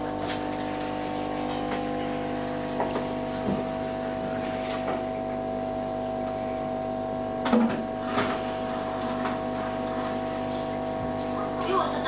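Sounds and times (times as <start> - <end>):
aquarium filter pump humming: 0.0 - 12.0.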